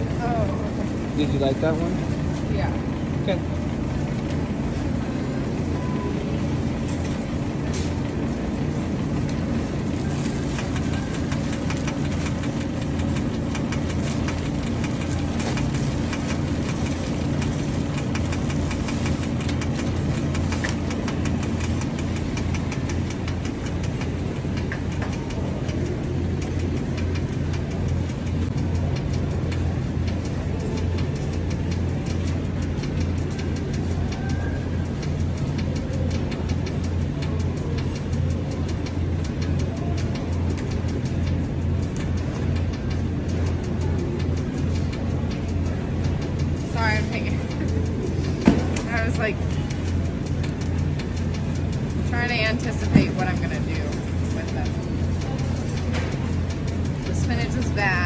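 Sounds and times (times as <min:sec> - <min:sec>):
shopping cart rattling: 0:00.0 - 0:58.0.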